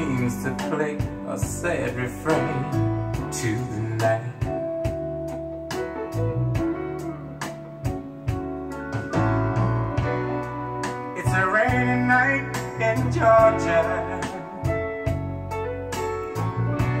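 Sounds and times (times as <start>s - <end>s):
soul ballad over loudspeakers: 0.0s - 17.0s.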